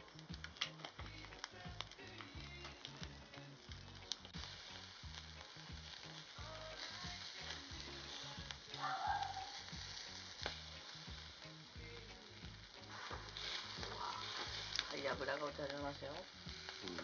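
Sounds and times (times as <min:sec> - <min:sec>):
food sizzling: 0:00.0 - 0:17.0
soft background music with beat: 0:00.0 - 0:17.0.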